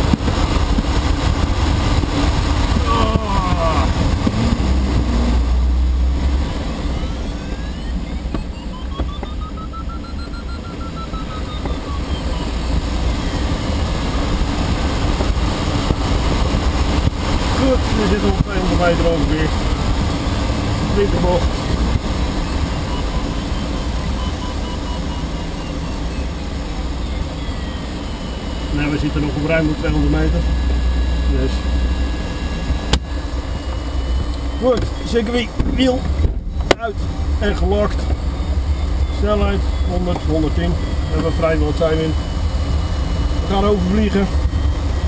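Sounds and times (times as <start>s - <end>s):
airflow rushing around cockpit: 0.0s - 45.0s
heavy low rumble: 0.0s - 45.0s
beeping variometer tone: 1.9s - 45.0s.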